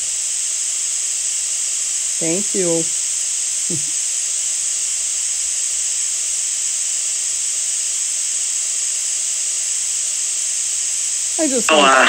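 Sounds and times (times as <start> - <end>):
steady white noise hiss: 0.0 - 12.0.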